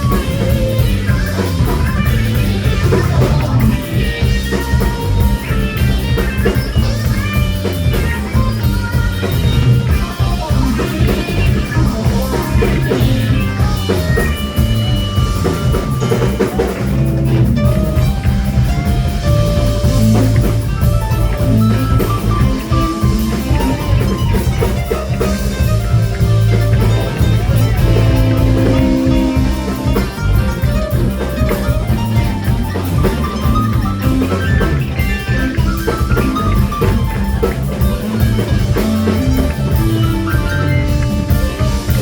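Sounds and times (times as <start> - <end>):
bass guitar: 0.0 - 42.0
drum kit beat: 0.0 - 42.0
electric guitar melody: 0.0 - 42.0.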